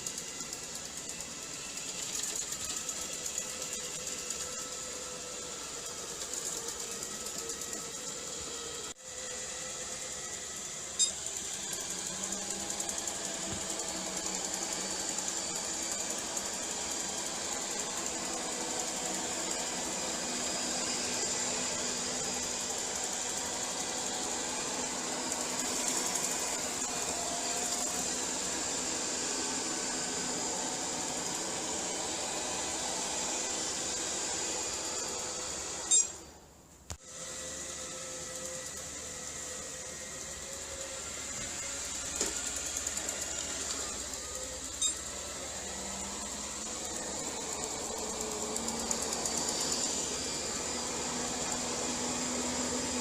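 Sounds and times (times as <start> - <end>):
robot vacuum cleaner running: 0.0 - 53.0.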